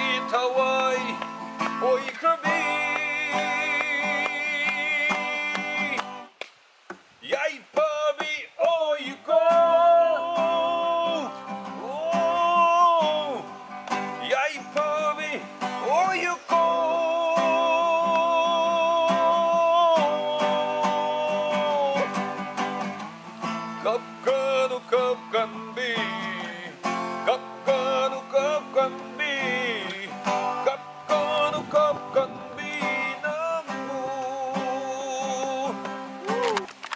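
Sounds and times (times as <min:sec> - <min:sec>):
person singing: 0:00.0 - 0:06.2, 0:07.2 - 0:13.6, 0:14.2 - 0:22.2, 0:23.8 - 0:36.7
acoustic guitar: 0:00.0 - 0:36.9.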